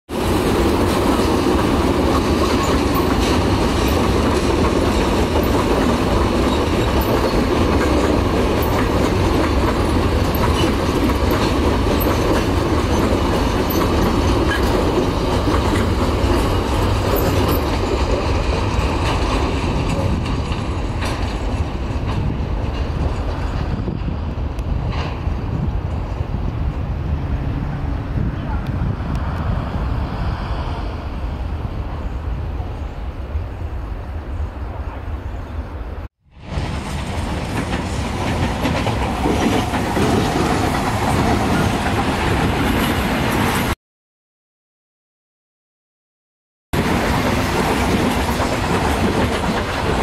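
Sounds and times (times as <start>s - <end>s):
train wheels on rails: 0.1s - 43.8s, 46.8s - 50.0s.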